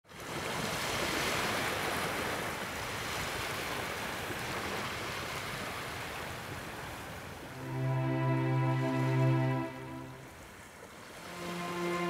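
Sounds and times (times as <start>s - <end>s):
waves rushing: 0.4s - 12.0s.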